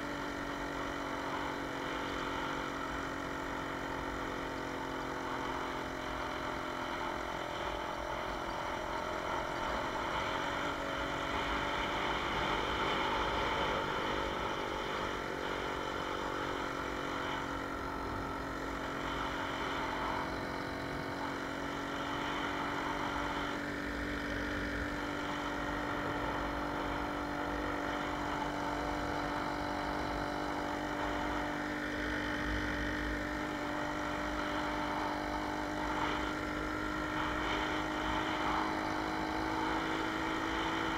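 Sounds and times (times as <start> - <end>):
moped engine running: 0.0 - 40.9
road and wind rumble: 0.0 - 40.9.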